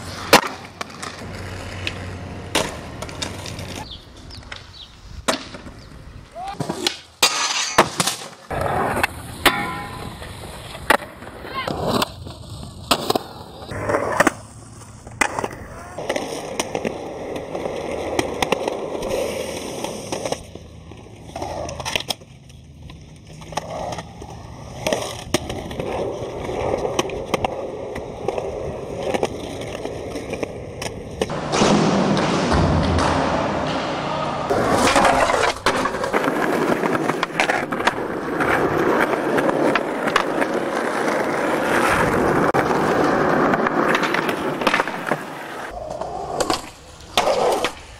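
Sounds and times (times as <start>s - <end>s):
skateboard popping and landing: 0.0s - 47.9s
skateboard wheels rolling: 0.0s - 47.9s.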